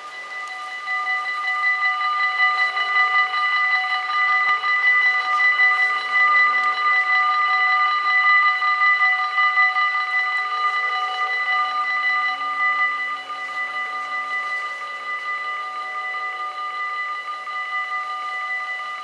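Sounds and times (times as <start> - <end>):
level crossing bells ringing: 0.0 - 17.8.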